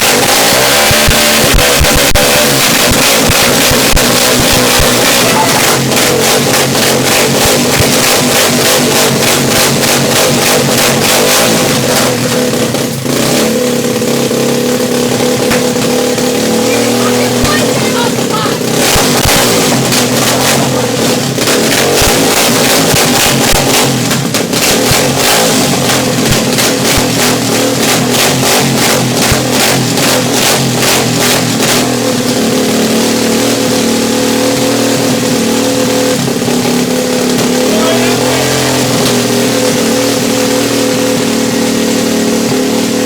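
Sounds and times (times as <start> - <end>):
dirt bike engine warming up: 0.0 - 43.0.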